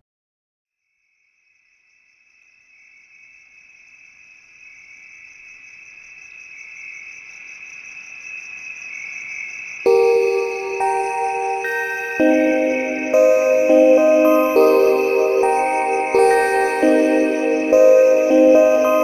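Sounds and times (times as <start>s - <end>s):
insects trilling: 1.1s - 19.0s.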